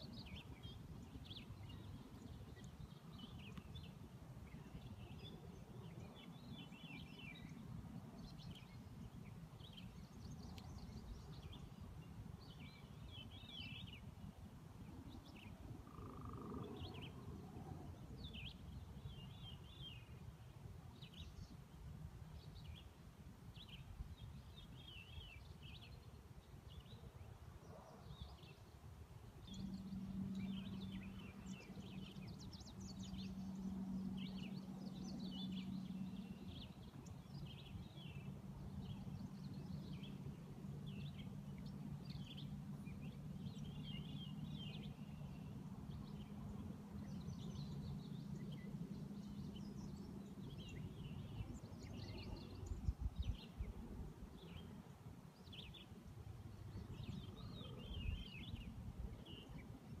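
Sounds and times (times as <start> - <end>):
light wind gusts: 0.0 - 60.0
low steady hum: 0.0 - 60.0
small songbirds chirping: 0.0 - 60.0.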